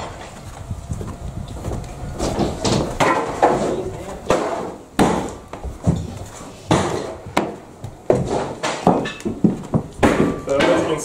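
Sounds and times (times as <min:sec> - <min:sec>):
footsteps climbing stairs: 0:00.0 - 0:11.0.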